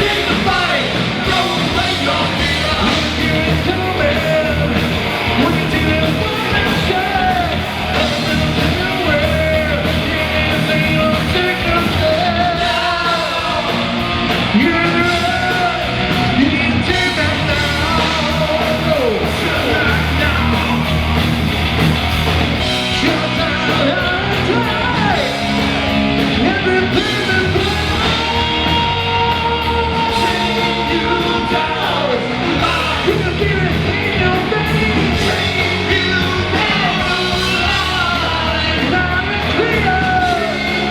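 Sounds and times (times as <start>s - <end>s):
lead singer singing: 0.0s - 40.9s
rock band playing live: 0.0s - 40.9s.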